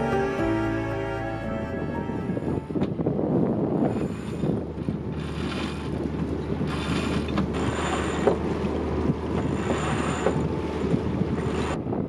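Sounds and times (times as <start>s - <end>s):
steady low rumble: 0.0s - 7.8s, 8.4s - 12.0s
wind and water hiss: 2.2s - 12.0s.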